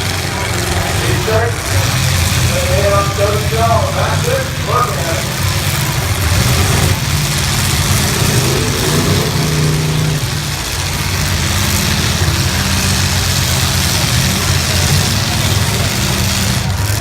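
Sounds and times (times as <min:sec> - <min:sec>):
car engine revving: 0:00.0 - 0:17.0
car engines running: 0:00.0 - 0:17.0.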